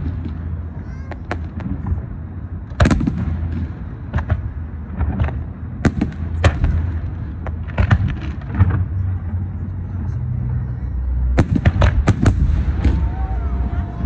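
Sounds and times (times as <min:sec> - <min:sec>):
fireworks bangs: 0:00.0 - 0:09.1, 0:11.3 - 0:14.0
low steady rumble: 0:00.0 - 0:14.0.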